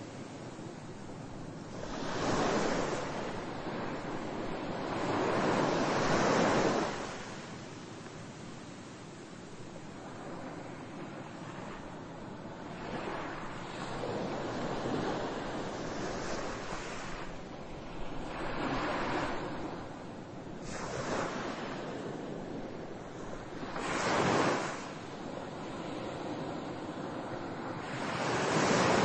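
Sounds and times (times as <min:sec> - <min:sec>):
rushing surf-like noise: 0:00.0 - 0:29.0.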